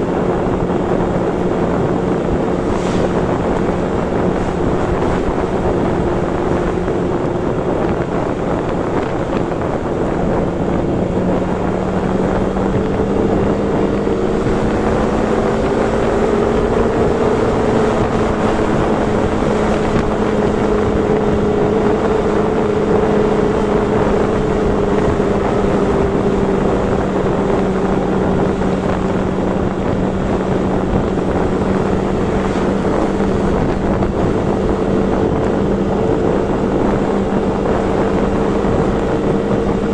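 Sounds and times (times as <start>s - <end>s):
motorcycle engine cruising: 0.0s - 39.9s
wind noise on microphone: 0.0s - 39.9s.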